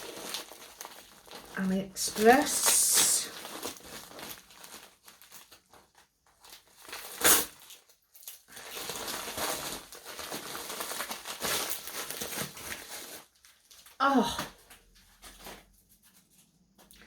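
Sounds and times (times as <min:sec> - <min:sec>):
plastic packaging crinkling: 0:00.0 - 0:16.2.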